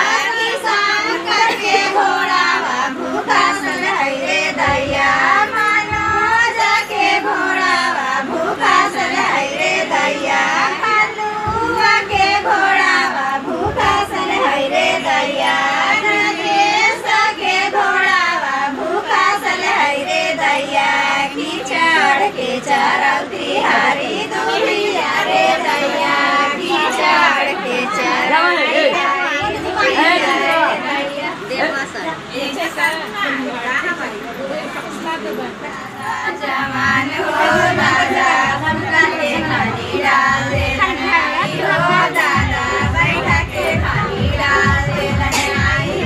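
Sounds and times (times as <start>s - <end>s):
women singing together: 0.0s - 46.0s.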